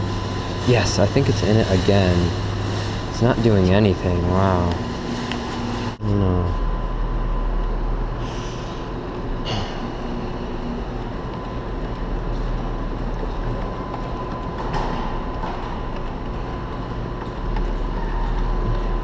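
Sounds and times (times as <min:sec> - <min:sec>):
claw machine mechanical whir: 0:00.0 - 0:19.0.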